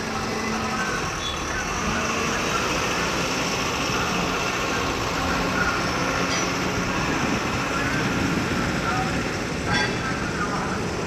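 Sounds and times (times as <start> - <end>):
train rolling past: 0.0 - 11.0.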